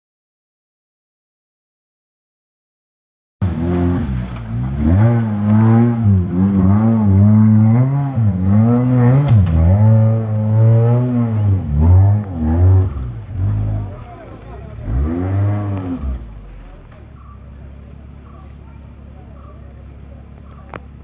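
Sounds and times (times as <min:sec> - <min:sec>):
car engine revving: 0:03.4 - 0:21.0.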